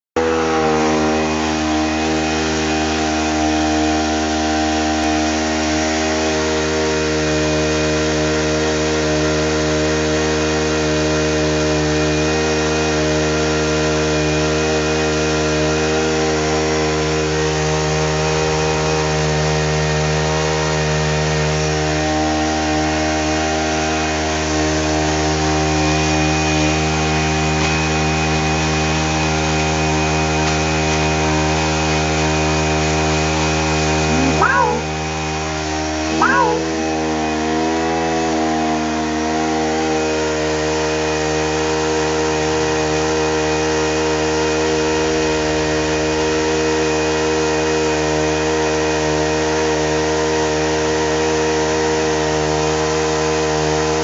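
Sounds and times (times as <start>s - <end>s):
small petrol engine running: 0.2s - 54.0s.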